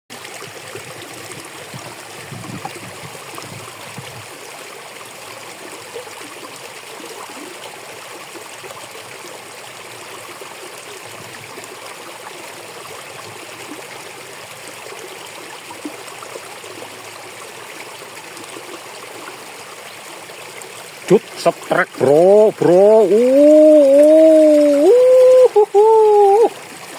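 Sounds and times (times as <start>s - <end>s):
water running through ditch: 0.1s - 26.9s.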